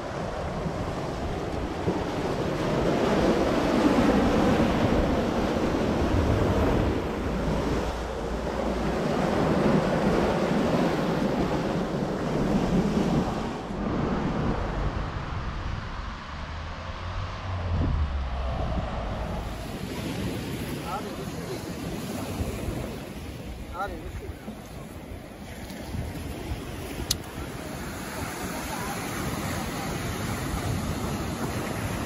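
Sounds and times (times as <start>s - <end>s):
rushing water waves: 0.0s - 32.0s
wind buffeting microphone: 0.0s - 32.0s.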